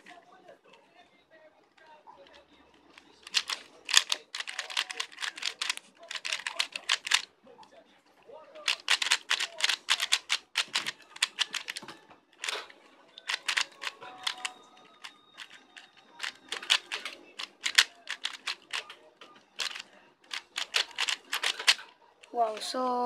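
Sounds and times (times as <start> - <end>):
plastic puzzle cube clacking: 1.8 - 7.3, 8.6 - 22.7.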